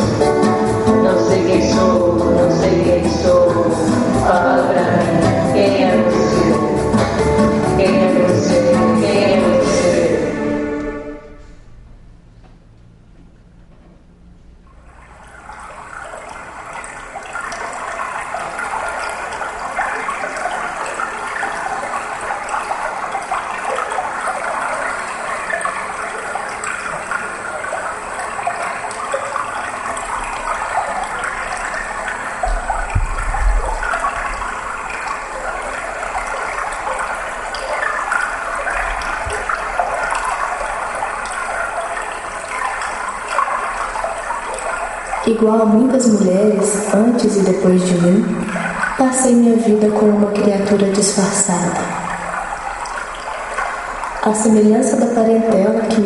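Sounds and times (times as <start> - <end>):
rushing water: 0.0 - 11.5, 14.7 - 56.0.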